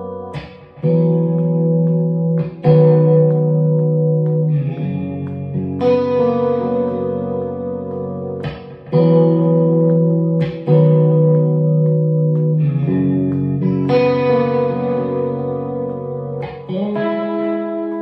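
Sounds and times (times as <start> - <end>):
clean electric guitar chords: 0.0 - 18.0.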